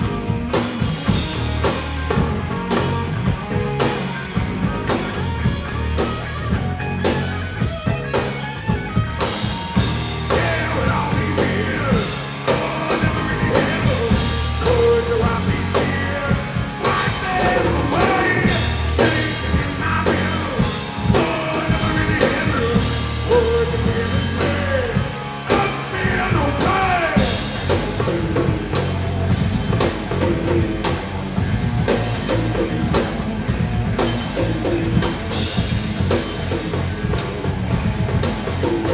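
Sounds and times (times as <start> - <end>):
rock music with singer: 0.0 - 38.9.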